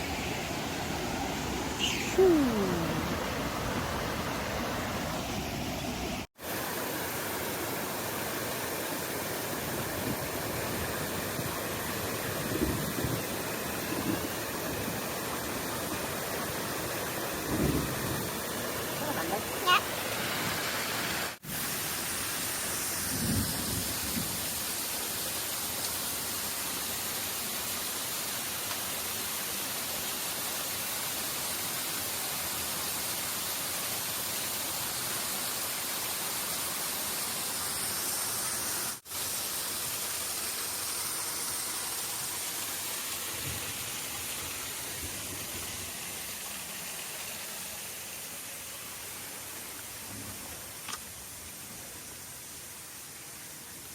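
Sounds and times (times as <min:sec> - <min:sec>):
stream water and waterfalls rushing: 0:00.0 - 0:53.9.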